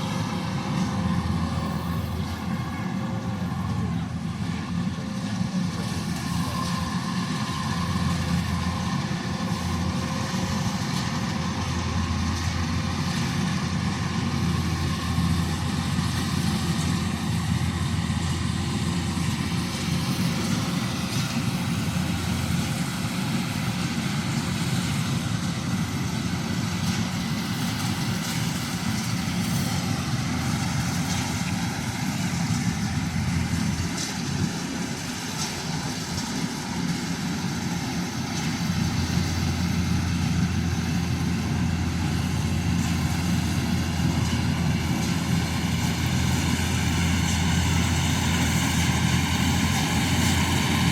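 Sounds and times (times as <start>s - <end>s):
combine harvester droning: 0.0s - 50.9s.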